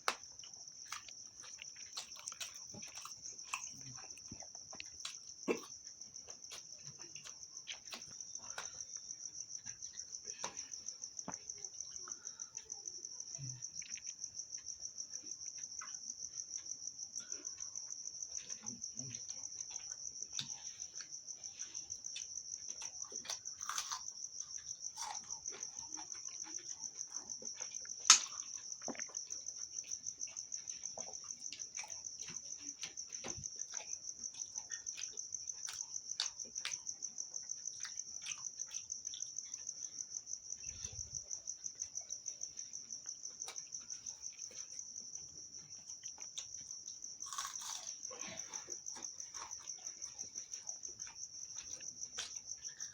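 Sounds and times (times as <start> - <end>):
cricket chirping: 0.0 - 52.9
soft clicks of eating: 0.0 - 52.9.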